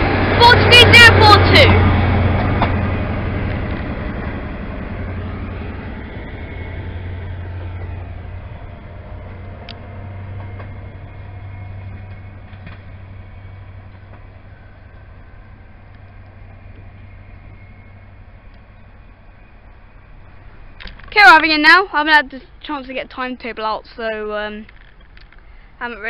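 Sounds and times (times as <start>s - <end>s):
diesel train engine drone: 0.0s - 26.0s
train rail noise: 0.0s - 26.0s.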